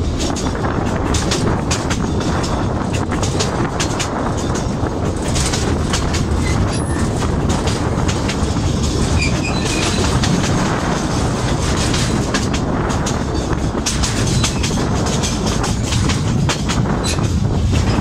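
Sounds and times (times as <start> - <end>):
train carriage rumbling: 0.0 - 18.0
wheels clattering over rails: 0.0 - 18.0.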